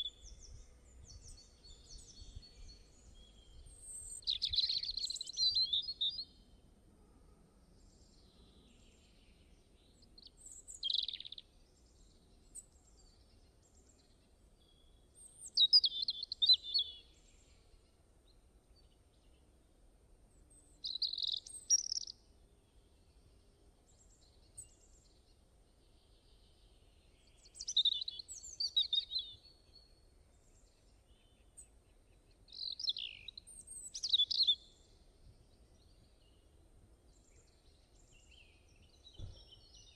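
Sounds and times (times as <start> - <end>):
songbird chirping: 0.0 - 6.9, 7.5 - 39.9.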